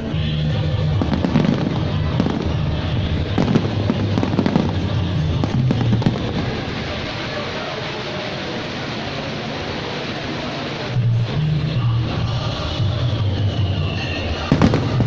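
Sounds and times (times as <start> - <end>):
fireworks bursting and crackling: 0.0 - 11.4, 12.9 - 15.0
music soundtrack: 0.0 - 15.0.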